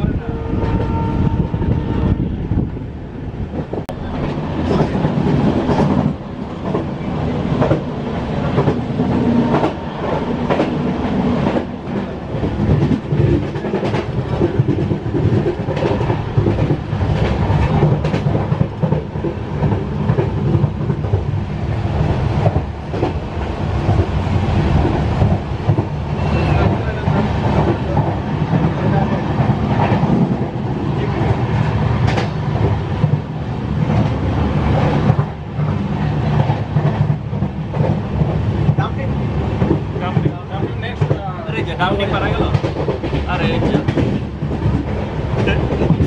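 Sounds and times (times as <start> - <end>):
train coach rumbling: 0.0 - 46.0.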